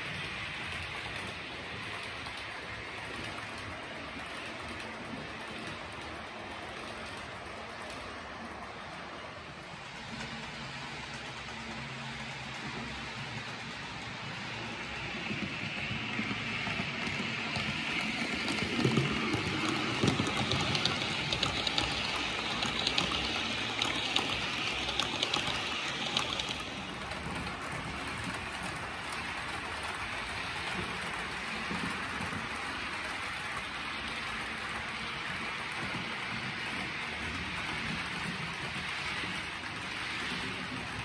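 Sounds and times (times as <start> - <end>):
model trains rolling on track: 0.0 - 41.0.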